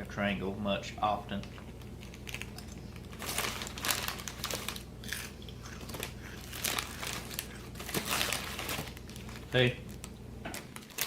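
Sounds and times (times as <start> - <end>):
chip bag crinkling: 1.6 - 11.0.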